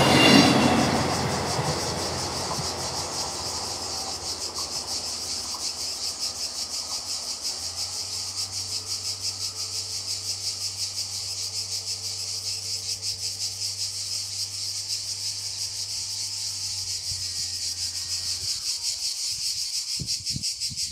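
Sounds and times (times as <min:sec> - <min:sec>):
insects chirring: 0:00.0 - 0:20.9.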